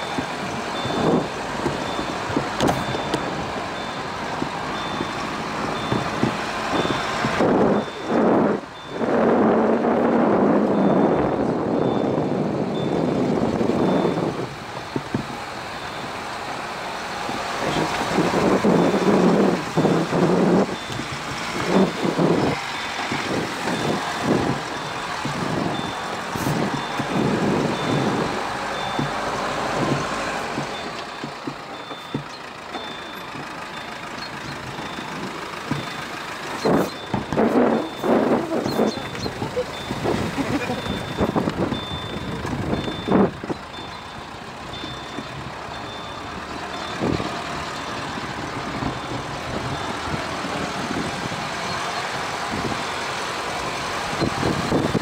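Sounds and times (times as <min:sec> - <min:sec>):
car engine driving: 0:00.0 - 0:55.0
tyres on dirt track: 0:00.0 - 0:55.0.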